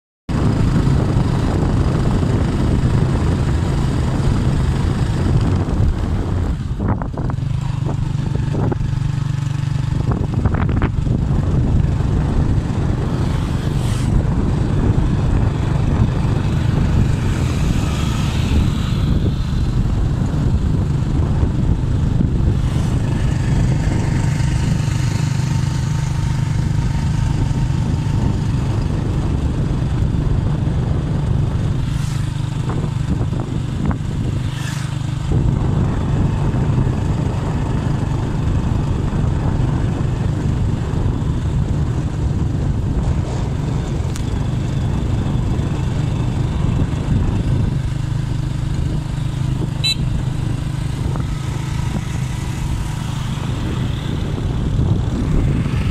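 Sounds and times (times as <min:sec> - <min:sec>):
motorcycle engine cruising: 0:00.3 - 0:55.9
wind and road noise: 0:00.3 - 0:55.9.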